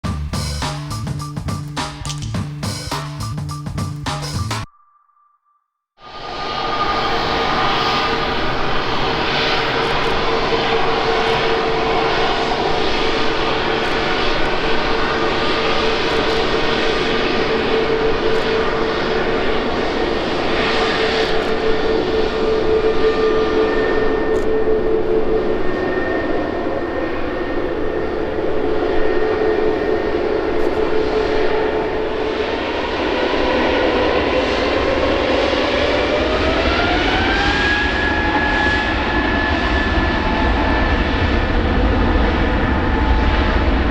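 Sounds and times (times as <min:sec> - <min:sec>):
rising engine whine: 0:06.0 - 0:43.9
jet engines running: 0:06.1 - 0:43.9.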